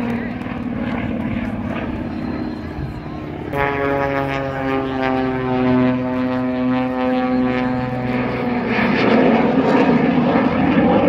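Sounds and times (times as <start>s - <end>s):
propeller plane engine: 0.0s - 11.0s.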